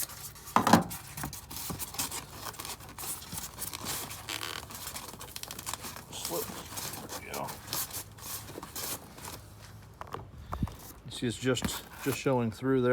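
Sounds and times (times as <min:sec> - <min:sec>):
scratchy scraping of packing material: 0:00.0 - 0:12.4.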